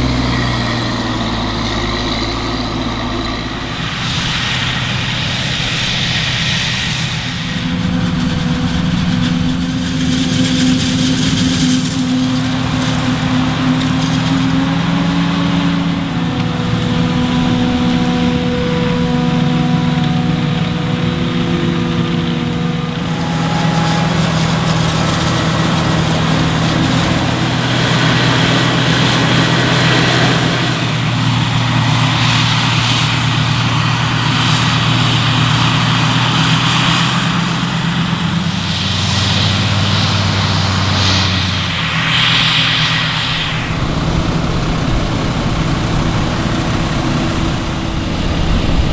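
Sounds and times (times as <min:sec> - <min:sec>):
farm machinery engines running: 0:00.0 - 0:48.9
rushing mechanical noise: 0:00.0 - 0:48.9.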